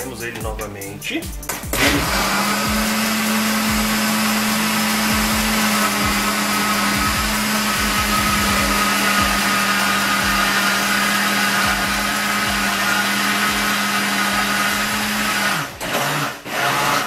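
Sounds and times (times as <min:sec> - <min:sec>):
blender running: 0:01.6 - 0:17.0.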